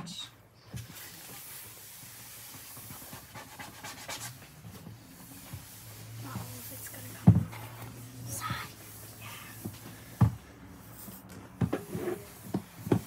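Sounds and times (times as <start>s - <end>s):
paper towel rubbing on desk: 0.8s - 10.1s, 10.7s - 13.0s.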